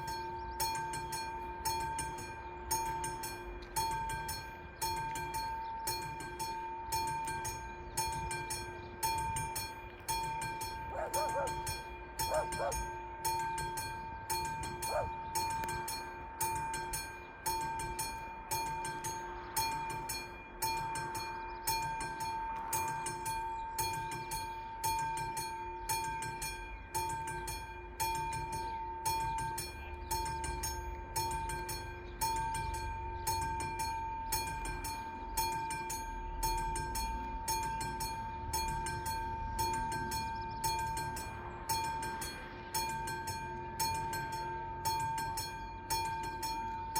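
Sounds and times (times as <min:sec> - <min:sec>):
level-crossing warning bells: 0:00.0 - 0:46.9.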